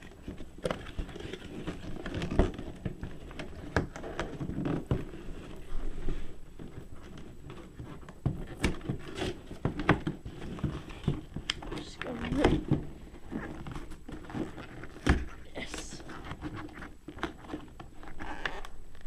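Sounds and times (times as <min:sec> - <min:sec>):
cardboard box being opened: 0:00.0 - 0:18.8.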